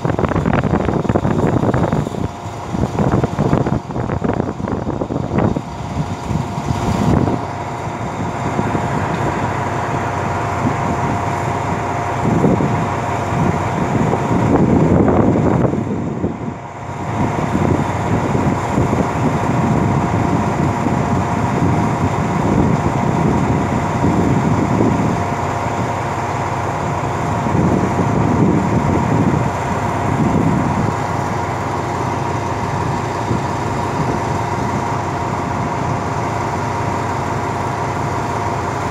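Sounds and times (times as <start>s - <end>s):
diesel train engine idling: 0.0s - 38.9s
rumbling swells: 0.0s - 38.9s.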